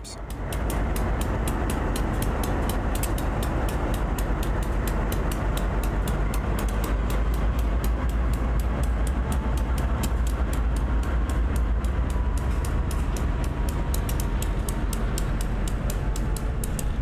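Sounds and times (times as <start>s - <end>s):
locomotive engines rumbling: 0.0s - 17.0s
fast high ticking: 0.1s - 17.0s.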